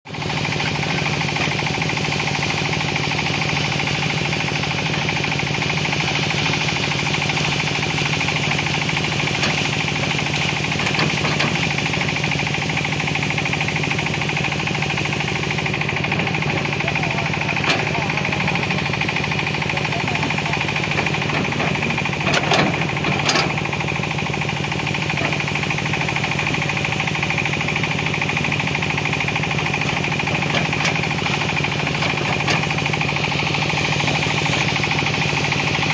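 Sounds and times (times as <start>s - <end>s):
excavator diesel engine chugging: 0.1s - 35.9s.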